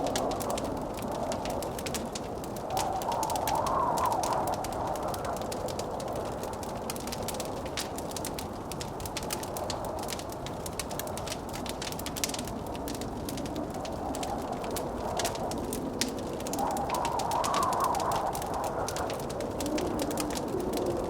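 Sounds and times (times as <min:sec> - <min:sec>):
blizzard wind rushing: 0:00.0 - 0:21.0
crackling wood fire: 0:00.0 - 0:21.0.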